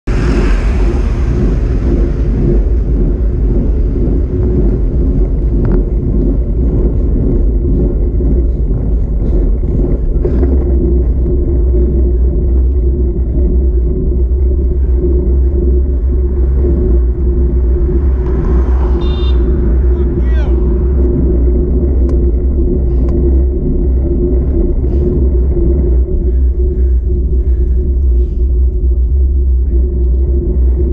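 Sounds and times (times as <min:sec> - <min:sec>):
wind buffeting microphone: 0:00.0 - 0:30.9
car passing: 0:00.1 - 0:27.1
bicycle tyre noise: 0:00.1 - 0:30.9.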